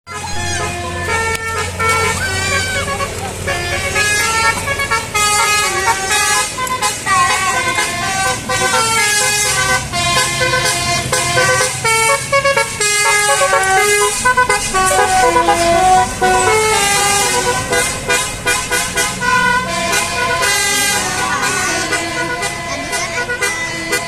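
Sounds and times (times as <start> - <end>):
bus air horn playing melody: 0.1 - 24.0.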